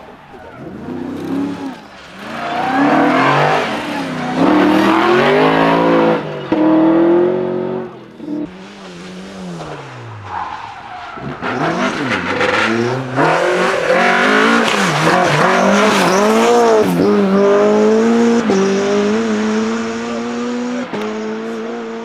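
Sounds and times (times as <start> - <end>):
rally car accelerating hard: 0.0 - 22.0.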